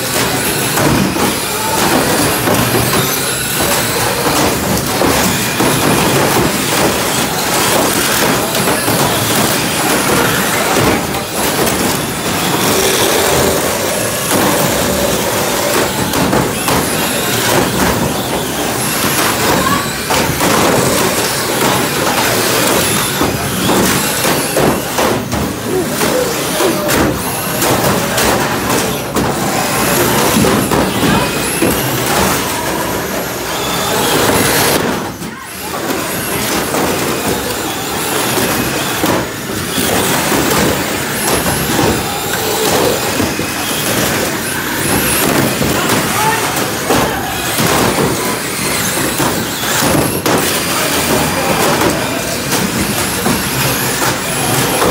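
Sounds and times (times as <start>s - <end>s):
plastic car bodies knocking: 0.0s - 54.9s
toy car motors whining: 0.0s - 54.9s.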